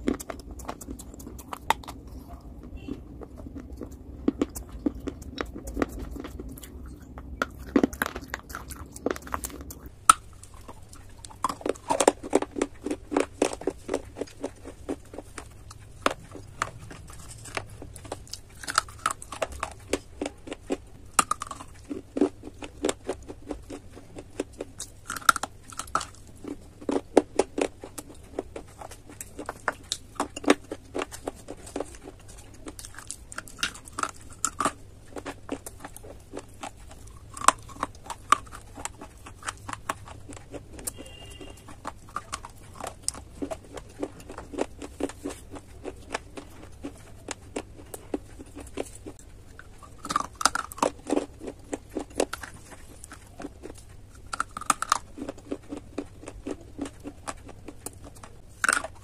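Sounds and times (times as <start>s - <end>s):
crunching of baked clay: 0.0s - 59.0s
quiet chewing: 0.0s - 59.0s.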